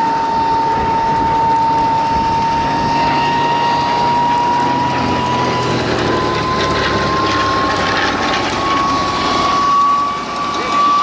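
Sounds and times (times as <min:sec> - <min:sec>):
radial aircraft engine running: 0:00.0 - 0:11.0
thin steady whine: 0:00.0 - 0:11.0.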